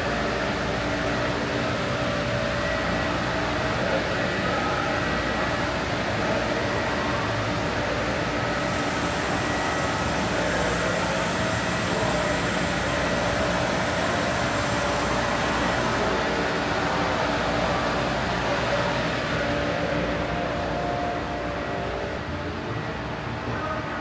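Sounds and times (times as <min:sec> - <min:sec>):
industrial machinery hum: 0:00.0 - 0:24.0
steady whining tones: 0:00.0 - 0:24.0.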